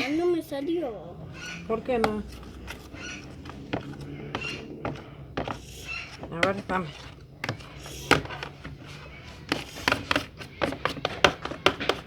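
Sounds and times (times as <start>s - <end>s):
utensil knocking against bowl: 1.2s - 12.0s.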